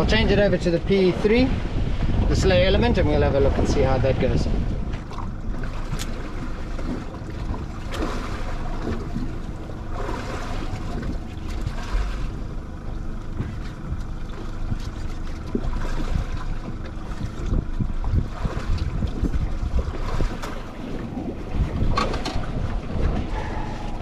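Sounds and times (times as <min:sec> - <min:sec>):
sea water washing against hull: 0:00.0 - 0:24.0
wind buffeting microphone: 0:00.0 - 0:24.0.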